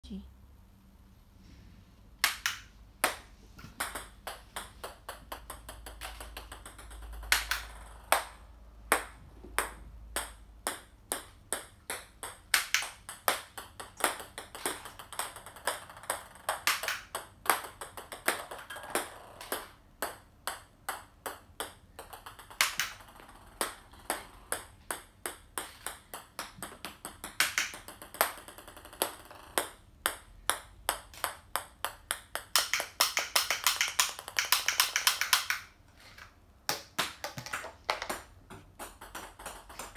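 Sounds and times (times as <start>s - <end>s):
plastic balls bouncing on wood floor: 2.2s - 39.9s.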